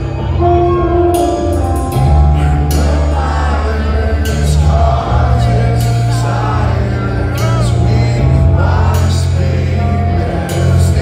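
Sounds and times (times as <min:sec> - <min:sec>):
heavy metal band playing live: 0:00.0 - 0:11.0.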